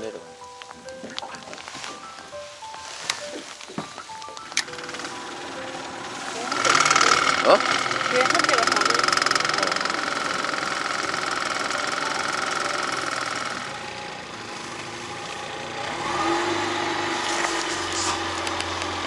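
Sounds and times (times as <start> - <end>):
outboard motor running: 0.9 - 19.0.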